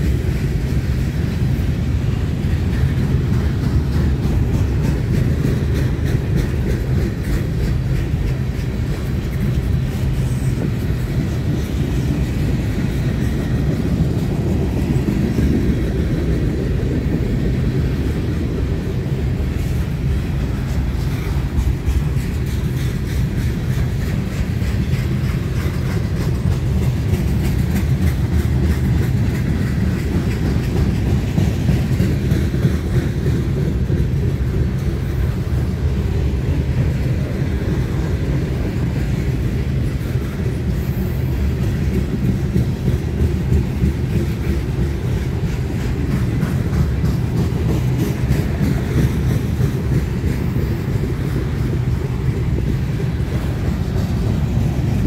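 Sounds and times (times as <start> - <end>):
steel wheels rumbling on rail: 0.0 - 55.0
wheels clacking over rail joints: 0.0 - 55.0.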